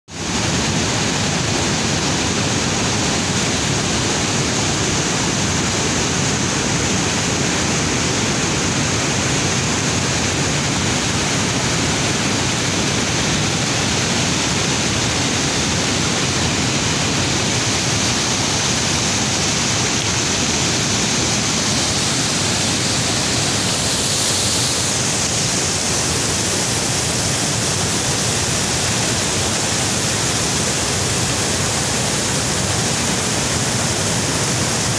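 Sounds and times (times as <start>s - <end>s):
waterfall rushing over rocks: 0.1s - 34.9s.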